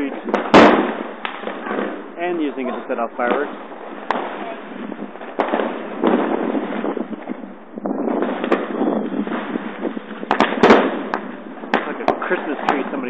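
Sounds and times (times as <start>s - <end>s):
firecrackers crackling: 0.0s - 13.0s
fireworks bangs: 0.0s - 13.0s
loud cracks: 0.0s - 13.0s.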